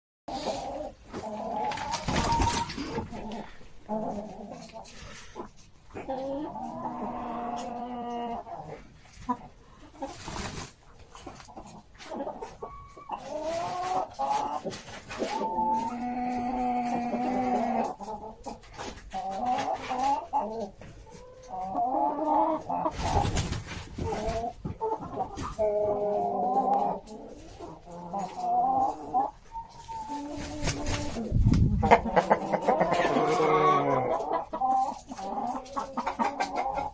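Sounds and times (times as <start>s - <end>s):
chickens clucking and calling: 0.3s - 36.9s.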